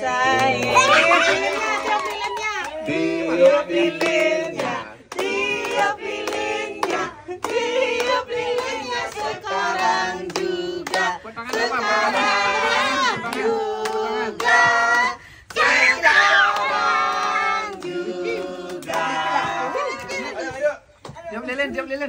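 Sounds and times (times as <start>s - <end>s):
group singing: 0.0s - 20.8s
people clapping in time: 0.0s - 21.2s.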